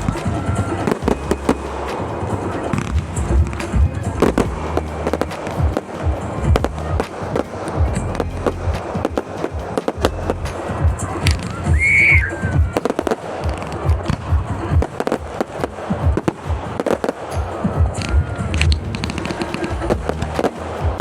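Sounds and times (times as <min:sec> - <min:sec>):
firework whistle: 0:00.0 - 0:21.0
fireworks bangs and crackles: 0:00.0 - 0:21.0.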